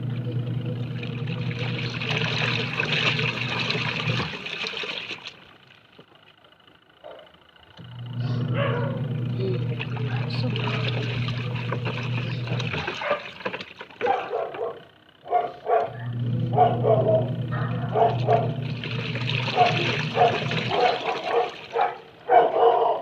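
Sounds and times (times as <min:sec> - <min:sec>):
washing machine motor humming: 0:00.0 - 0:23.0.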